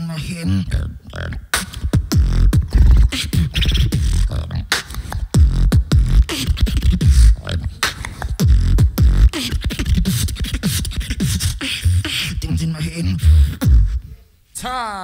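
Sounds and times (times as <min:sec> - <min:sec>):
beatboxing into a microphone: 0:00.0 - 0:14.2.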